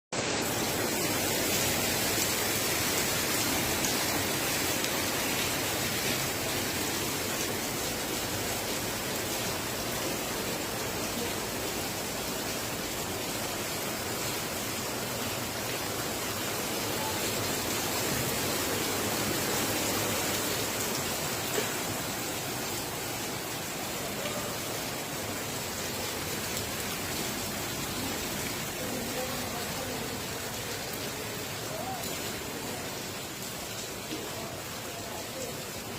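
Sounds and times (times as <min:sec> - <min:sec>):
heavy rain falling: 0:00.1 - 0:35.9.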